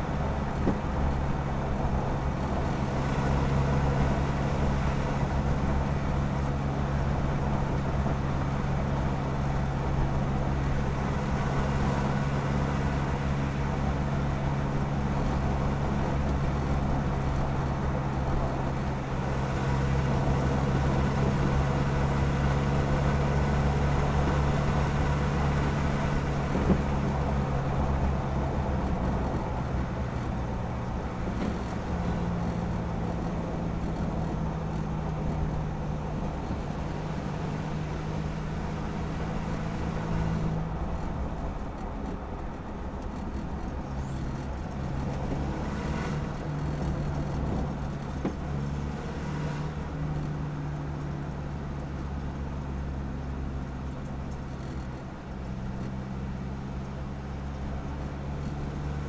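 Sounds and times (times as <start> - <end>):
diesel engine exhaust drone: 0.0 - 59.0
road rumble: 0.0 - 59.0.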